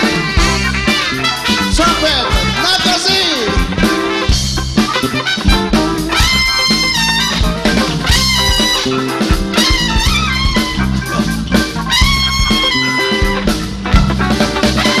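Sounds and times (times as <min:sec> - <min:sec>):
live soul disco band: 0:00.0 - 0:15.0
trumpet horn section held notes: 0:00.0 - 0:15.0.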